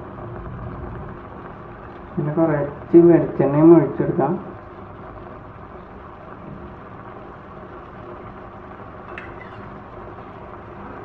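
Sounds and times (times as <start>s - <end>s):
gravy bubbling and hissing: 0.0s - 11.0s.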